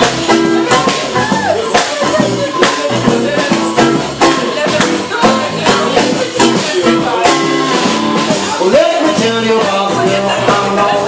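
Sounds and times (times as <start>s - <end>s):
drums: 0.0s - 11.0s
electric guitar: 0.0s - 11.0s
strummed acoustic guitar: 0.0s - 11.0s.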